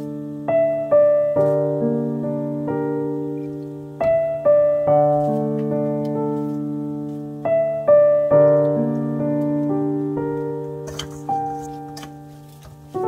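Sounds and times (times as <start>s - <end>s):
slow gentle piano music: 0.0s - 13.0s.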